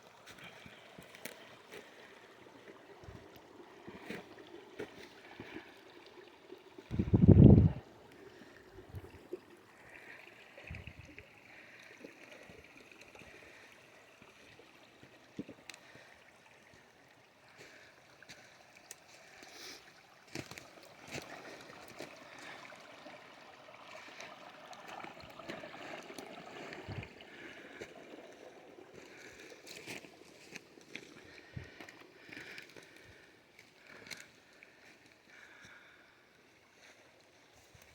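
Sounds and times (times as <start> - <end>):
stream water flowing: 0.0 - 37.9.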